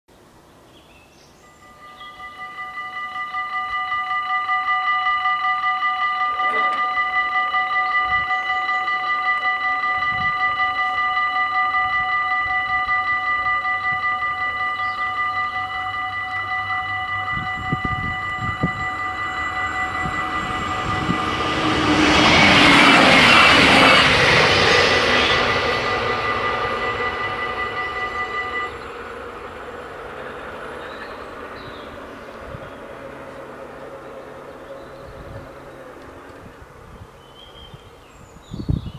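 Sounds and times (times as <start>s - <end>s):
diesel railcar passing: 0.2s - 38.9s
level-crossing warning bells: 1.4s - 38.3s.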